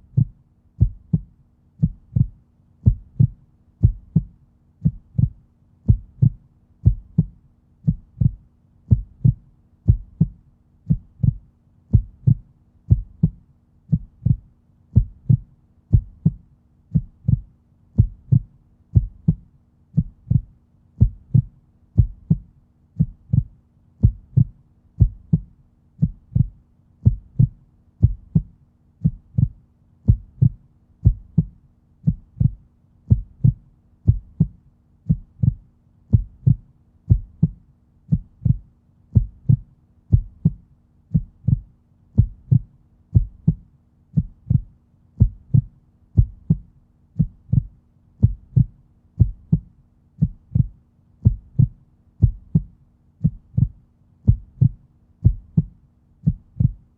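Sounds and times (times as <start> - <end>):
faint steady hum: 0.0 - 56.9
heartbeat thumps: 0.0 - 56.9.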